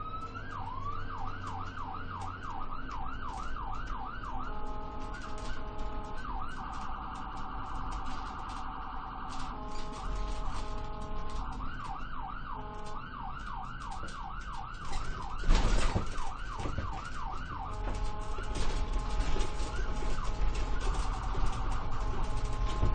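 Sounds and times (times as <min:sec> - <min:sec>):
ambulance siren: 0:00.0 - 0:22.9.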